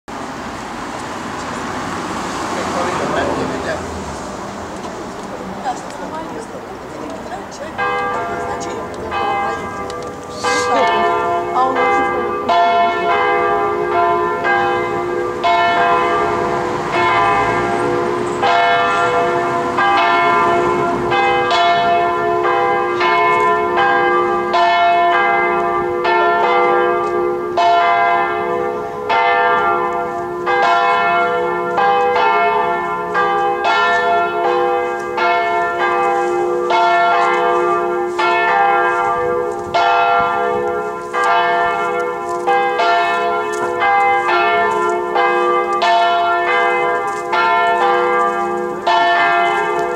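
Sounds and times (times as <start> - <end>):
church bells ringing: 1.5 - 49.9
hum of ringing bells: 5.6 - 49.9.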